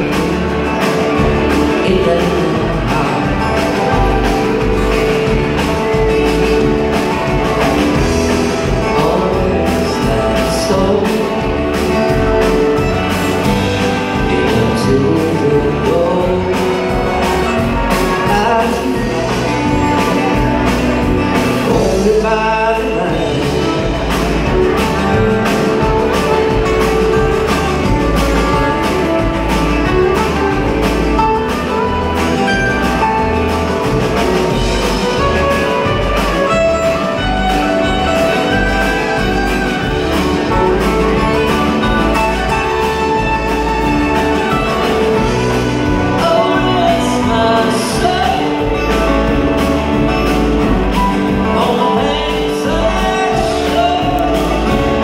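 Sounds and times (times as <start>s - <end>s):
drum kit beat: 0.0s - 55.0s
string band playing: 0.0s - 55.0s.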